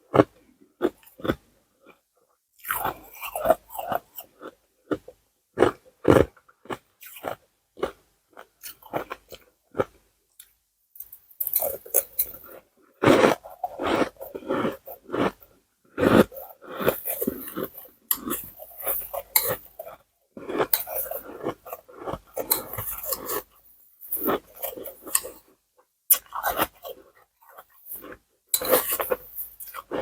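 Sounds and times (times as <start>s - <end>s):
ice being crunched and chewed: 2.6s - 30.0s.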